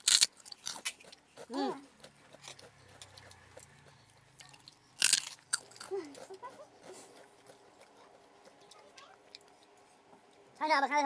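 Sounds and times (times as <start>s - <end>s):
food crunching and chewing: 0.0s - 10.5s.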